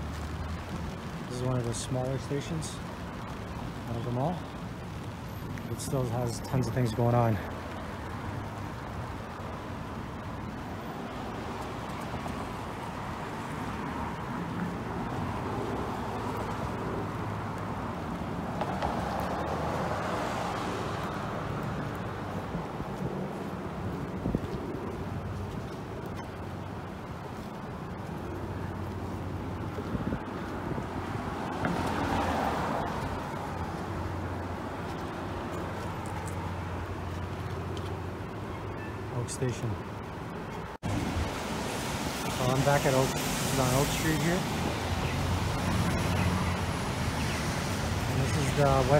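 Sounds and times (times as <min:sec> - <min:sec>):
passing cars: 0:00.0 - 0:48.9
street traffic hum: 0:00.0 - 0:48.9.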